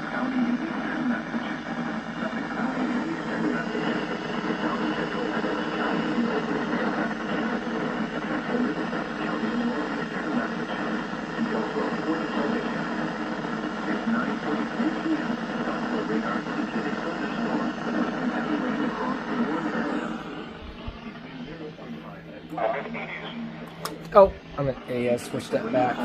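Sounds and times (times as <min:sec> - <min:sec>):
faint voice: 0:00.0 - 0:26.0
radio static hiss: 0:00.0 - 0:26.0.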